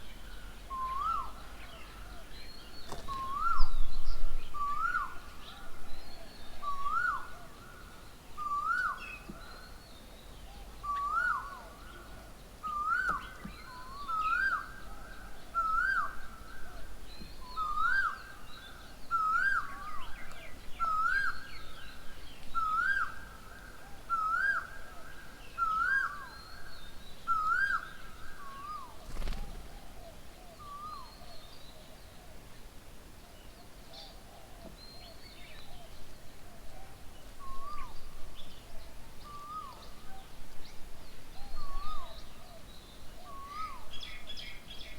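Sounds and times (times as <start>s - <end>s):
faint birds chirping: 0.0s - 44.9s.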